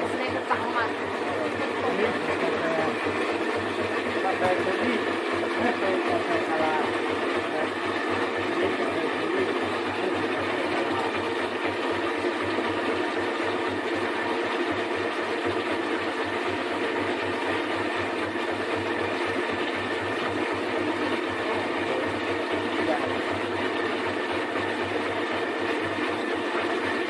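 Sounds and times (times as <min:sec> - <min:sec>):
pulping machine humming: 0:00.0 - 0:27.0.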